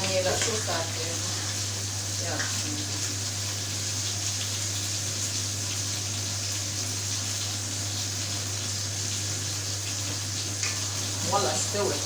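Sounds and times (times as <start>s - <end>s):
food hissing in pots: 0.0s - 12.0s.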